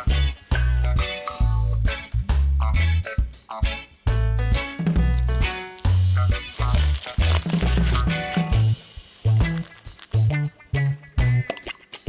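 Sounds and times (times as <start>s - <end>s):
light rattling percussion: 0.0s - 12.0s.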